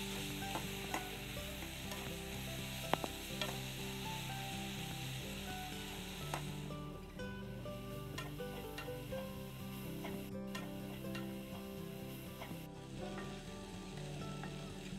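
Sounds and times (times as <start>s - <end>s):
onions sizzling in oil: 0.0s - 14.9s.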